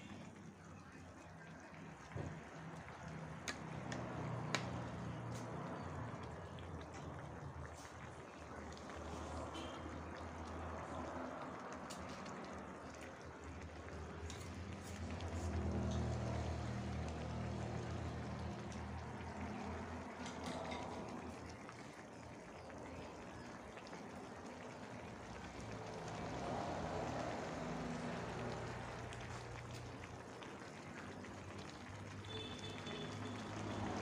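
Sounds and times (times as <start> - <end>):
broth simmering in a wok: 0.0 - 34.0.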